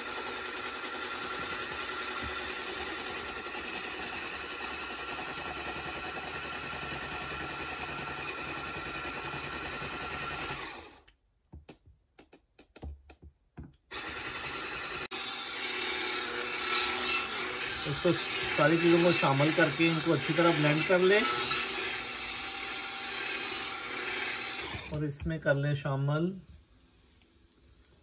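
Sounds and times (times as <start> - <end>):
stick blender motor running: 0.0 - 11.1, 13.8 - 25.2.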